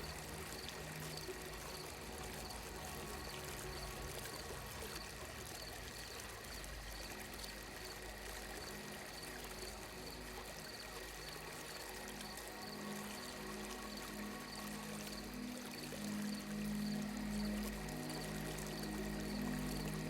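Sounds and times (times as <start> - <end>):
flowing water: 0.0 - 20.0.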